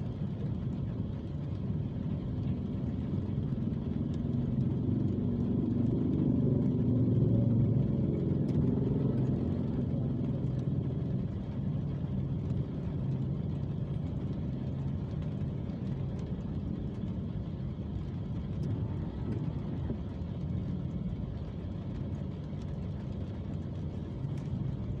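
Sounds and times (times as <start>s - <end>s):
idling scooter and car engines: 0.0s - 25.0s
rain ticking on windshield: 0.0s - 25.0s.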